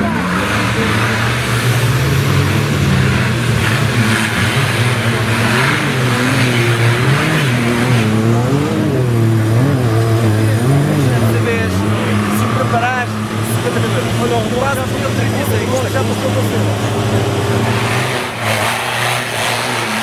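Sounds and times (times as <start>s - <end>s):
engine revving hard: 0.0s - 20.0s.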